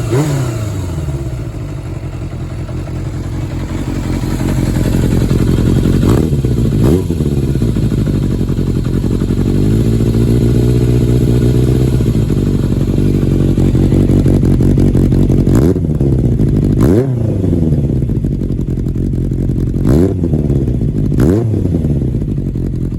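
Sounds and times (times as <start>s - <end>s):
engine revving: 0.0s - 2.0s, 2.6s - 18.6s, 19.7s - 22.5s
motorcycle engine idling: 0.0s - 22.9s.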